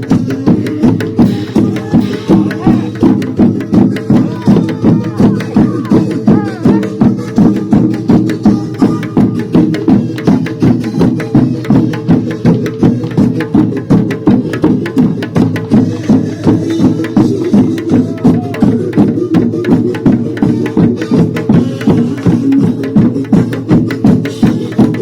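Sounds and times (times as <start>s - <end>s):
driving percussion beat: 0.0s - 25.0s.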